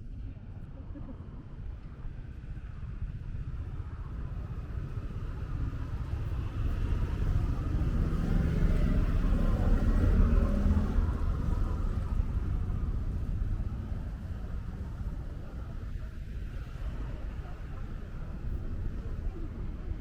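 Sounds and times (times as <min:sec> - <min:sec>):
vehicle engine and tyre rumble: 0:00.0 - 0:20.0.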